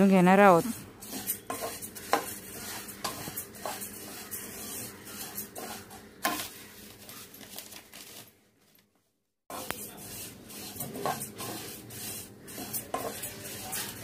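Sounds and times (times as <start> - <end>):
wooden spatula scraping a pan: 0.0 - 8.2, 9.5 - 14.0
seeds rustling and hissing in a wok: 0.0 - 8.3, 9.5 - 14.0.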